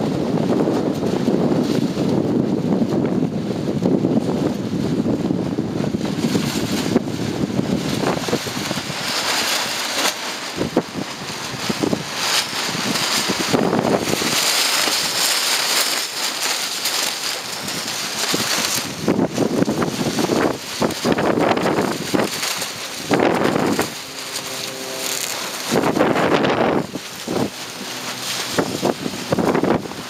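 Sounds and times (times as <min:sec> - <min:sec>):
wind gusting against microphone: 0:00.0 - 0:30.0.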